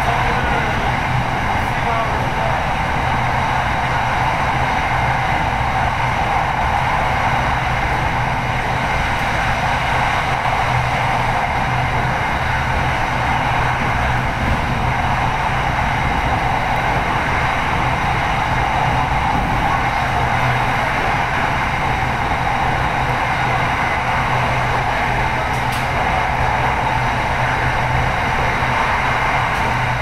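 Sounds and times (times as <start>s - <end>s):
electric train running inside: 0.0s - 30.0s.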